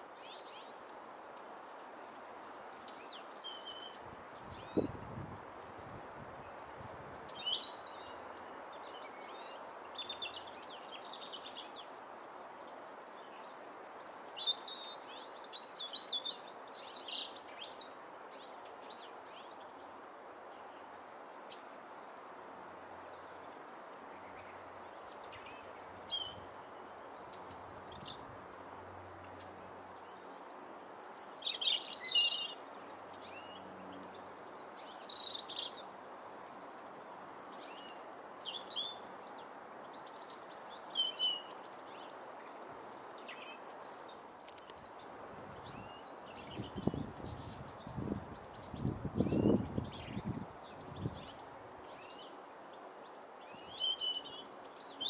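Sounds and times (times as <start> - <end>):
small birds chirping: 0.0 - 55.0
steady background hiss: 0.0 - 55.0.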